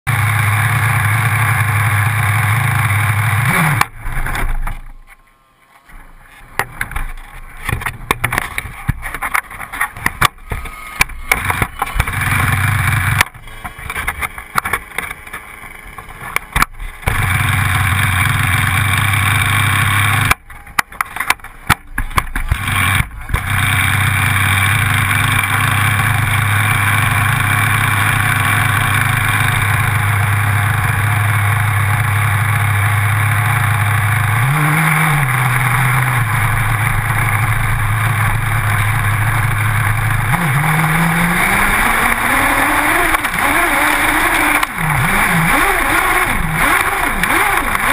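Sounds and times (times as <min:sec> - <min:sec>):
small two-stroke engine idling: 0:00.1 - 0:04.2, 0:10.4 - 0:20.7, 0:22.4 - 0:47.9
engine crackling unevenly: 0:05.9 - 0:47.9.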